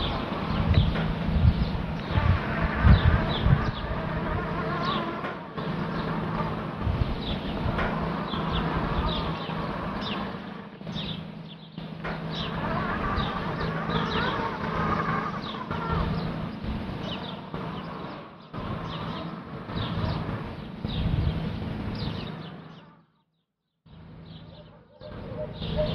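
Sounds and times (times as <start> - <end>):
robotic lawn mower humming: 0.0 - 23.2
birds chirping: 0.0 - 25.9.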